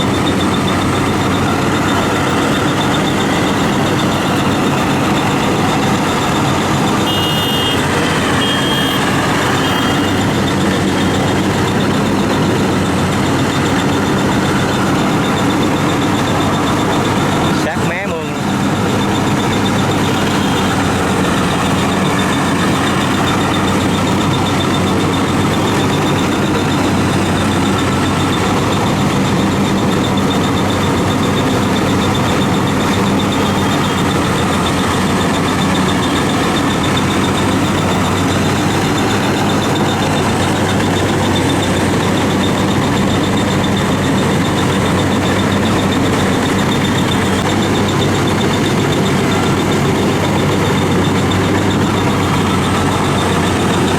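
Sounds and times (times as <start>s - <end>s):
combine harvester engine drone: 0.0s - 53.9s
thin high whine: 0.0s - 53.9s.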